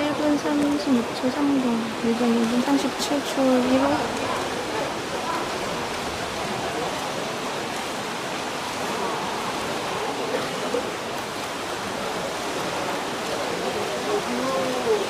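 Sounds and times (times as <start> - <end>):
faint spectators' voices: 0.0 - 15.0
swimmers splashing: 0.0 - 15.0.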